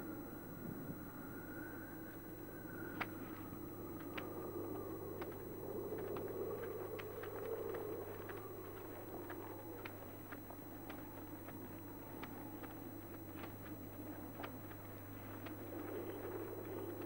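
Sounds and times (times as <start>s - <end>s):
low hum: 0.0s - 17.0s
clicks and crackle: 2.9s - 17.0s.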